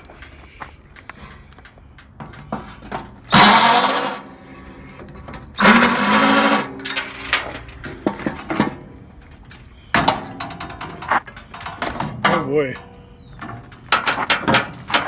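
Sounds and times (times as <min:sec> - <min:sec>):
small metallic clicks and knocks: 0:00.0 - 0:15.0.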